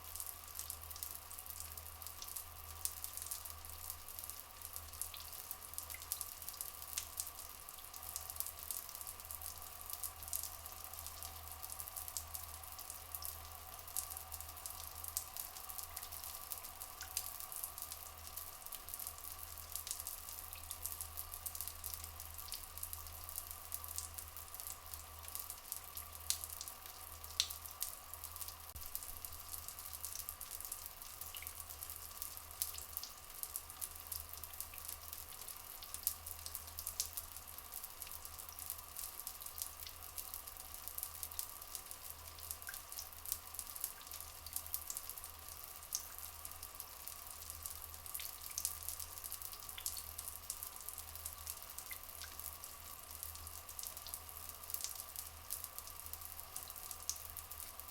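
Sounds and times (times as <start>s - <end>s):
faint steady hum: 0.0s - 57.9s.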